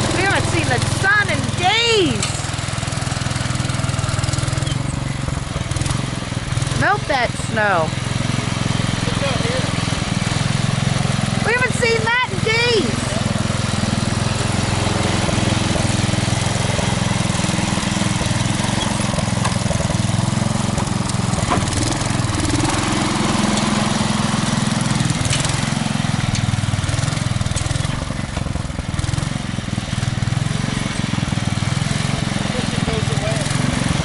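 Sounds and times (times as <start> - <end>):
garden tractor engine running: 0.0 - 34.0.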